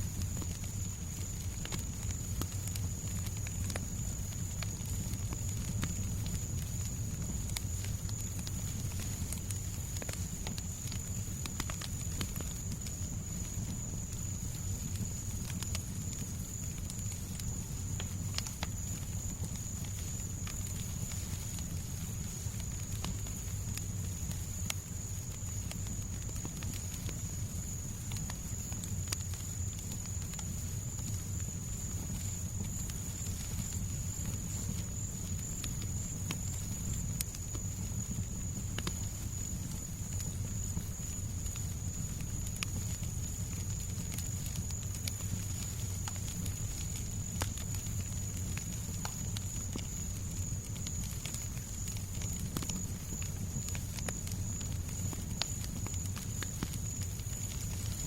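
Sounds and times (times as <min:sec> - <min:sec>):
fireplace fire crackling: 0:00.0 - 0:58.0
low rumble and hiss: 0:00.0 - 0:58.0.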